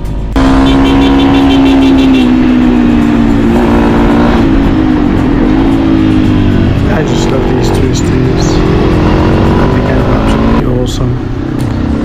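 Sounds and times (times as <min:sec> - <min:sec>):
motorcycle engine running: 0:00.3 - 0:12.0.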